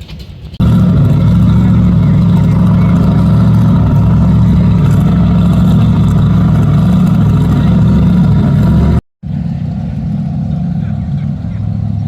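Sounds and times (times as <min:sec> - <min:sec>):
boat engine running: 0:00.6 - 0:12.0.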